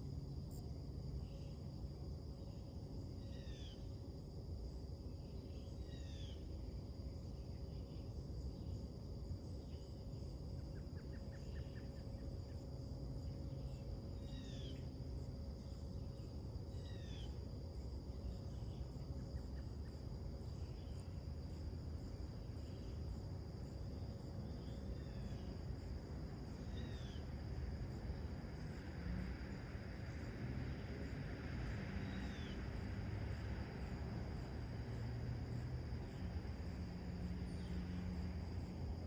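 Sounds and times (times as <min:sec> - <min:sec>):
insect drone: 0:00.0 - 0:39.0.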